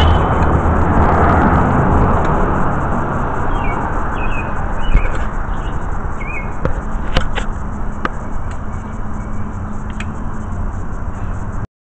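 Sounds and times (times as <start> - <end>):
city street traffic noise: 0.0 - 11.7.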